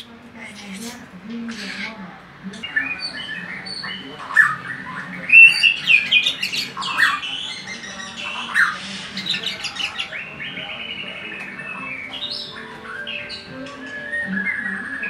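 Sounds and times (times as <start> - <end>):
songbird whistling and chattering: 0.0 - 15.0.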